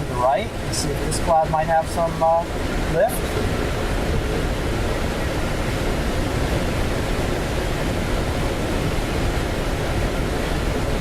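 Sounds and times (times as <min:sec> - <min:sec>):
airflow hissing over glider: 0:00.0 - 0:11.0.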